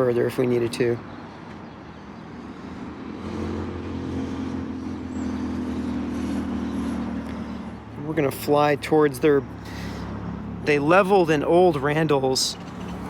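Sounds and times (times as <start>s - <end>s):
vehicle engine humming: 2.5s - 13.0s.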